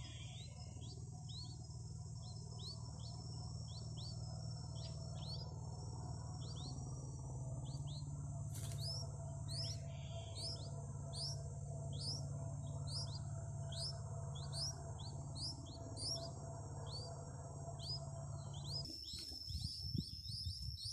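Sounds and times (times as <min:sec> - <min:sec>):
low hum: 0:00.0 - 0:20.9
small birds chirping: 0:00.0 - 0:20.9
steady high whine: 0:00.0 - 0:20.9.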